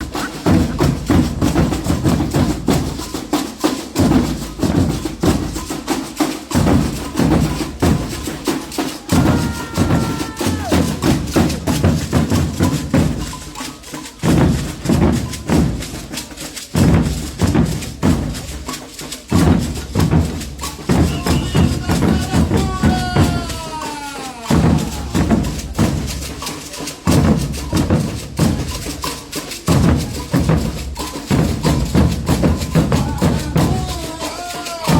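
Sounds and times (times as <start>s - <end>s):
drums and hand percussion: 0.0s - 34.9s.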